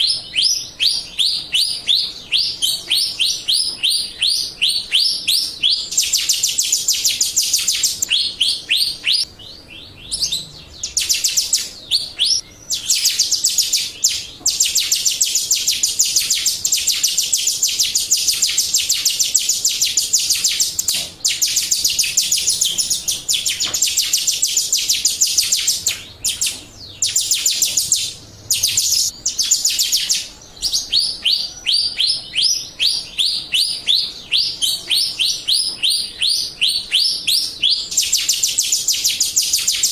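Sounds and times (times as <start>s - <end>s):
starling fast high chirps: 0.0s - 39.9s.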